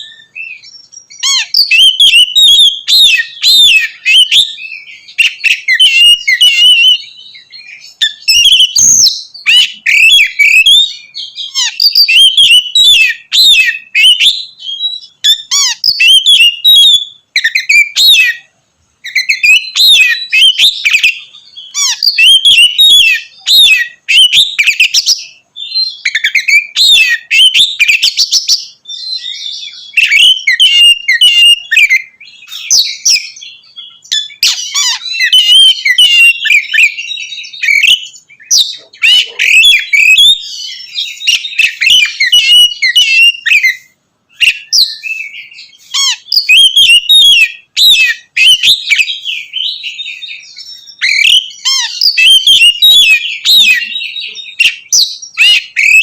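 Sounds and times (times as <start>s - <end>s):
bird singing loudly: 0.0s - 56.0s.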